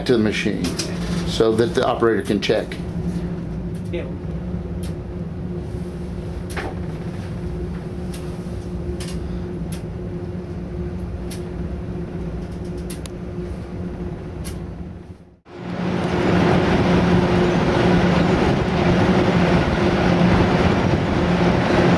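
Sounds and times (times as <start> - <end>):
machinery hum: 0.0 - 21.9.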